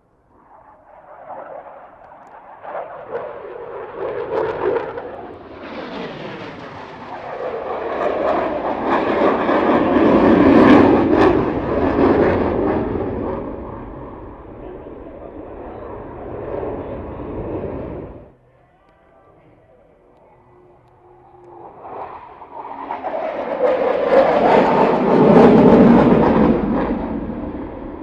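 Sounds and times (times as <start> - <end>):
jet engines roaring: 0.0 - 18.4, 20.2 - 28.0.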